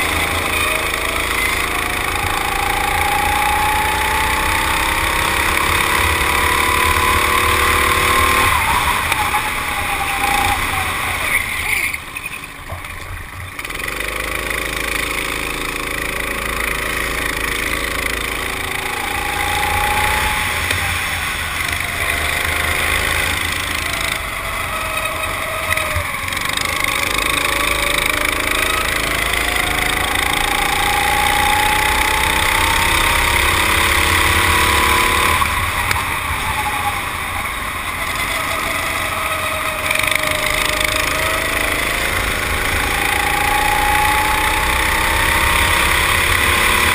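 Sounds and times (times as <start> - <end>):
constant rushing noise: 0.0 - 46.9
go-kart engine running: 0.0 - 46.9.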